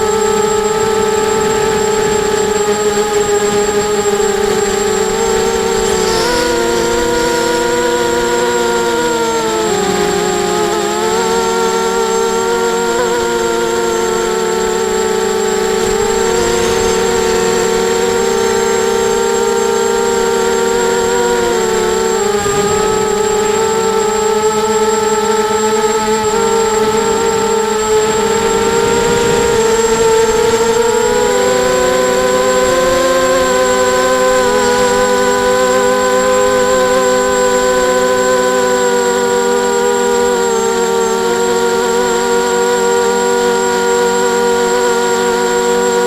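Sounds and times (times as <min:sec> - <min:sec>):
drone motors whining: 0:00.0 - 0:46.0.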